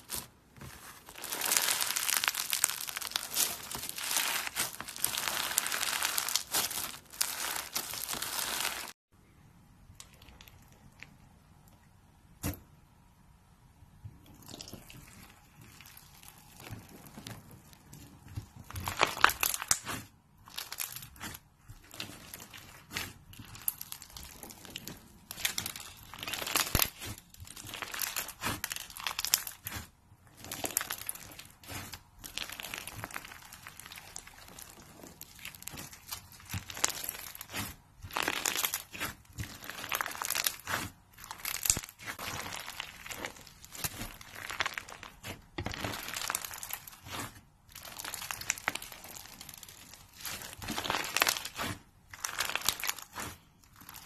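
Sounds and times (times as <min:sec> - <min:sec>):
crunchy slime crackling: 0:00.0 - 0:09.0, 0:14.4 - 0:54.0.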